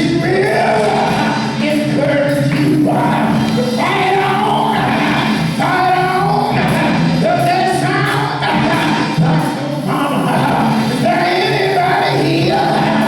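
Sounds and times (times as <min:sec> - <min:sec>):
gospel singing with band: 0:00.0 - 0:13.0.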